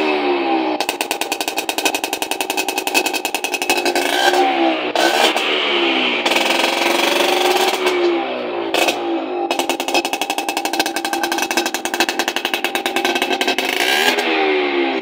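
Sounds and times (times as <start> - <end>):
rickshaw engine revving: 0.0 - 15.0.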